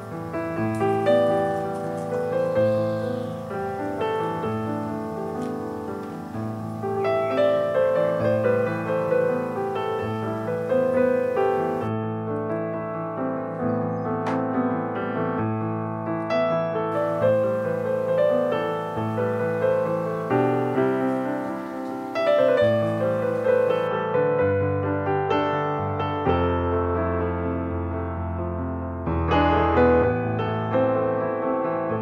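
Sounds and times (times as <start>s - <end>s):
calm instrumental piano music: 0.0s - 32.0s.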